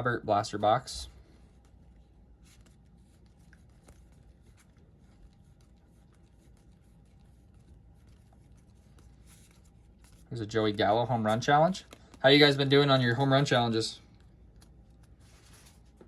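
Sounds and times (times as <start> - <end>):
trading cards clicking and rustling: 2.4 - 16.0.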